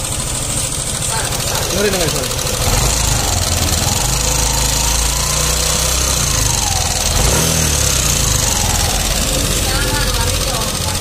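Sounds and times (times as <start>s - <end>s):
rough scooter engine running: 0.0s - 11.0s.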